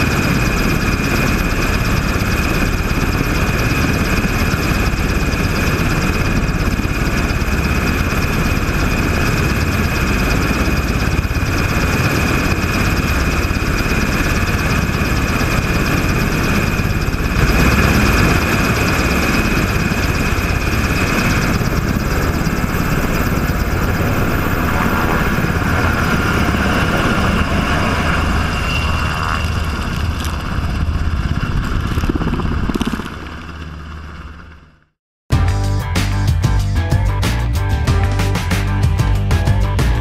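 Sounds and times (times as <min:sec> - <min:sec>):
helicopter rotor chop: 0:00.0 - 0:35.0
helicopter turbine whine: 0:00.0 - 0:35.0.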